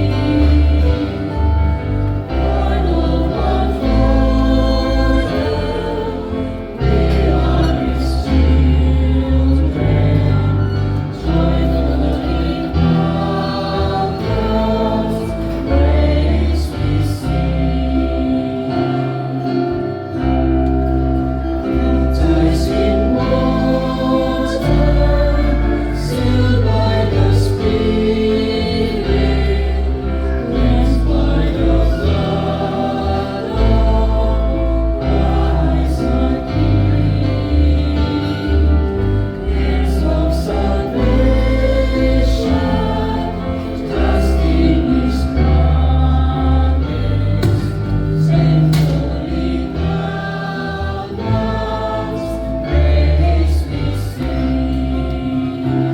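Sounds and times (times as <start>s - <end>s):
church choir singing a hymn: 0.0s - 55.9s
low bass accompaniment: 0.0s - 55.9s.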